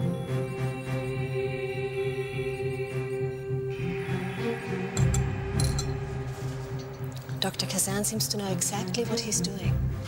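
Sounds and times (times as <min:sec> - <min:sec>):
droning background music chord: 0:00.0 - 0:10.0.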